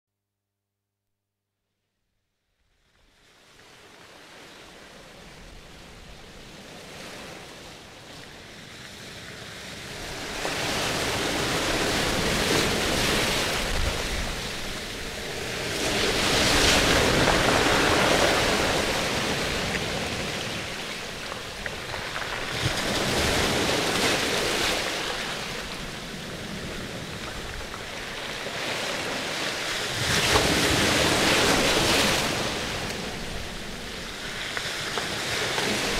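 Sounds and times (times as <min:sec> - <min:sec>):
rushing surf-like noise: 0:03.3 - 0:35.9.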